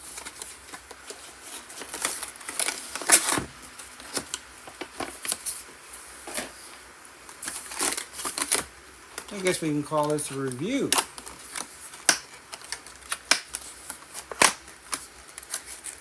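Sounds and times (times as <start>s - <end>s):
packaging crinkling and clicking: 0.0s - 5.6s, 7.2s - 16.0s.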